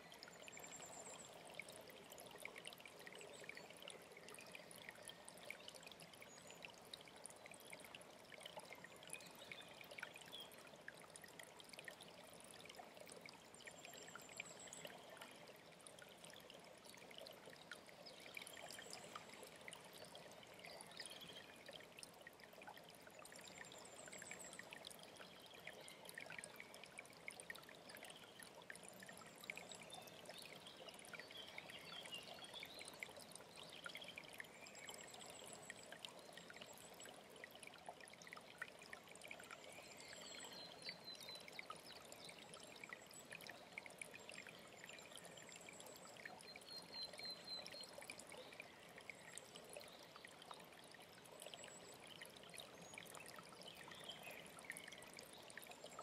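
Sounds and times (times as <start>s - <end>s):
mountain stream trickling: 0.0s - 56.0s.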